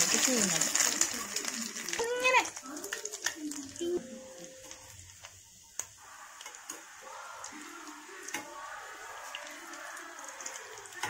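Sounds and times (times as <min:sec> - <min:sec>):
oil sizzling deep-frying: 0:00.0 - 0:11.0.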